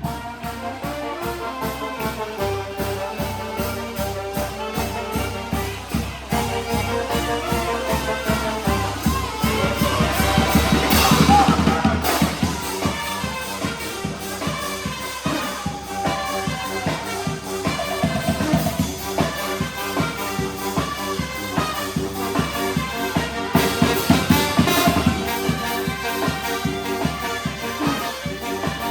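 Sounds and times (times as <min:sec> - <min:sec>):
brass band playing: 0:00.0 - 0:28.9
steady drum beat: 0:00.0 - 0:28.9.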